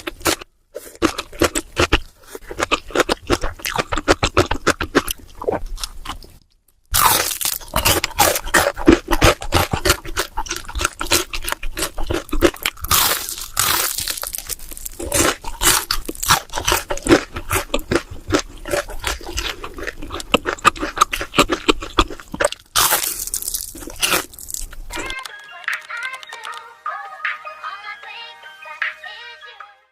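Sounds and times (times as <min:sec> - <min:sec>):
person chewing noodles: 0:00.0 - 0:25.2.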